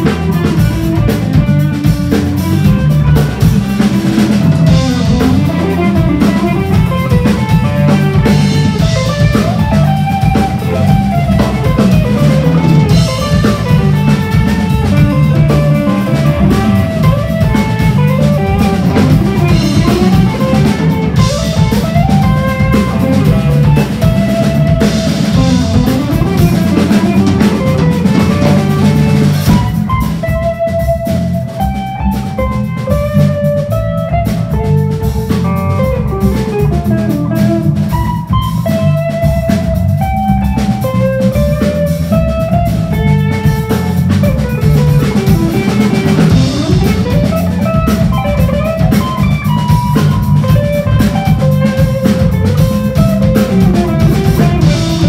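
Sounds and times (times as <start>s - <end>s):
drum kit: 0.0s - 55.0s
electric bass: 0.0s - 55.0s
electric guitar lead melody: 0.0s - 55.0s.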